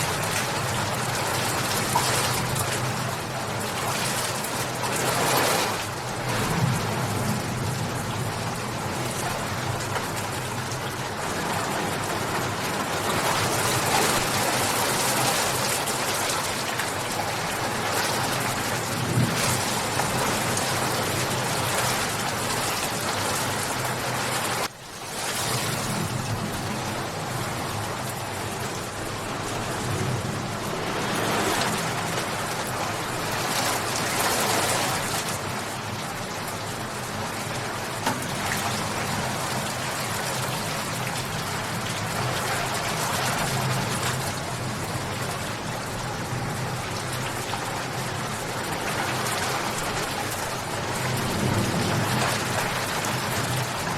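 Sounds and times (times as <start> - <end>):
heavy rain splashing: 0.0 - 53.9.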